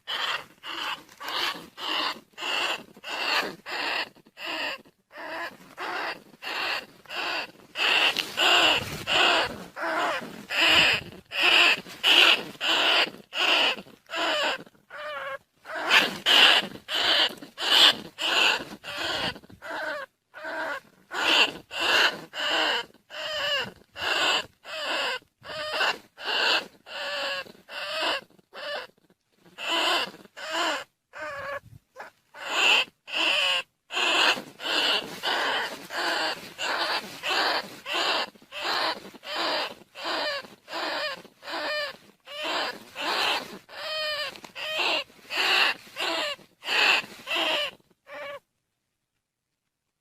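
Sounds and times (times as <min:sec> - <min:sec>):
rats squealing: 0:00.0 - 0:48.4.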